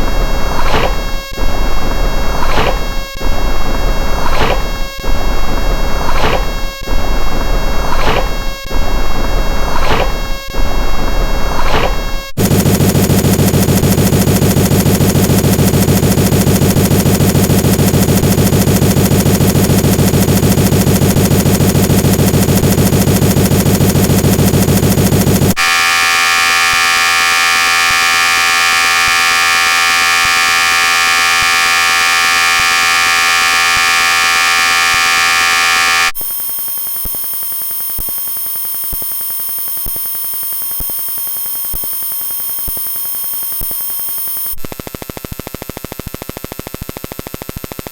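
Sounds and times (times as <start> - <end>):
harsh electronic buzzing: 0.0 - 47.8.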